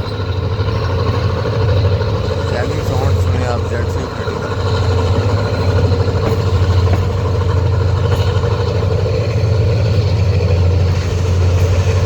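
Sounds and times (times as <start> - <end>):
constant higher hum: 0.0 - 12.0
locomotive engine droning: 0.0 - 12.0.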